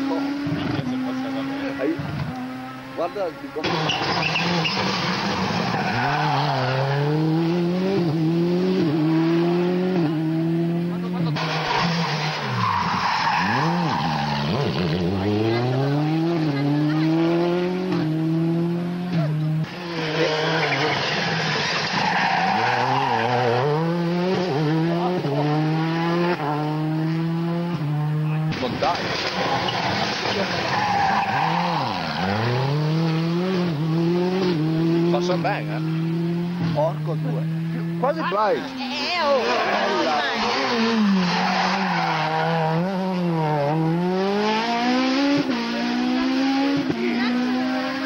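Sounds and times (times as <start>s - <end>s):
rally car engine accelerating: 0.0s - 48.0s.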